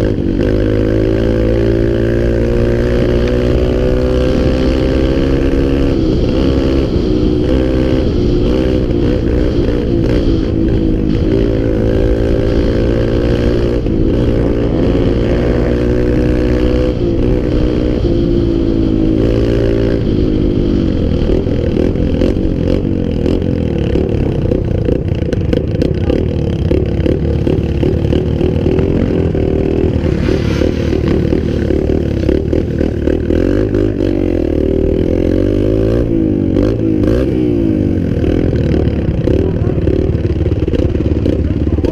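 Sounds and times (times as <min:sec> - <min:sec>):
small off-road vehicle engine: 0:00.0 - 0:41.9.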